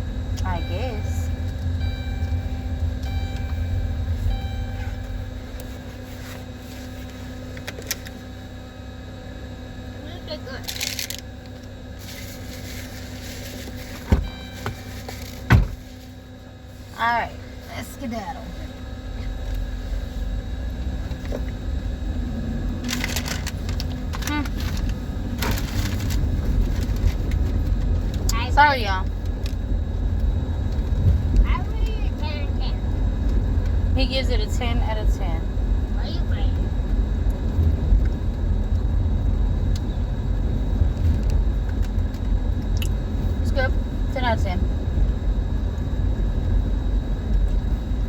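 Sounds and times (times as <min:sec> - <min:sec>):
car cabin engine rumble: 0:00.0 - 0:48.0.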